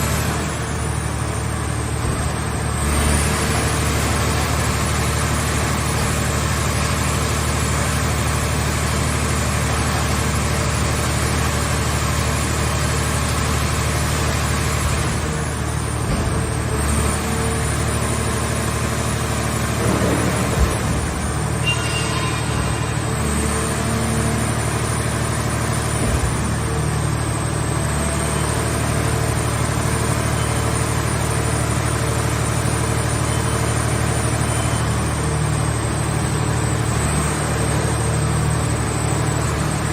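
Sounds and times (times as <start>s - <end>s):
hydraulic power unit running: 0.0s - 39.9s.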